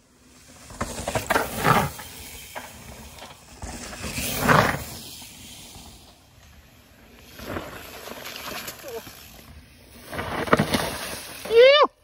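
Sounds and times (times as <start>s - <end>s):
mountain bikes passing on dirt: 0.0s - 12.0s
tyres sliding through loose dirt: 0.0s - 12.0s.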